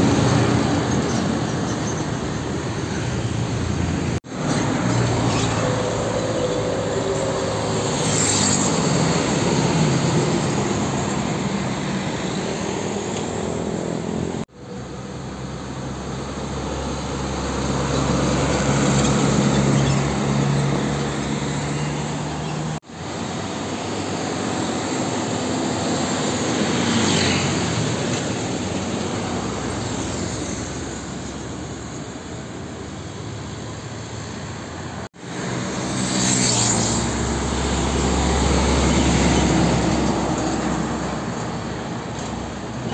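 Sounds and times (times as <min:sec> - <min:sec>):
heavy diesel trucks passing: 0:00.0 - 0:42.9
road traffic: 0:00.0 - 0:42.9
tyres on asphalt: 0:00.0 - 0:42.9.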